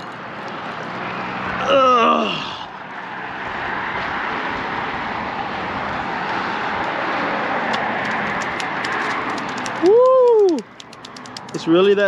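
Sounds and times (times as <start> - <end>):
highway traffic tyre hiss: 0.0 - 12.0.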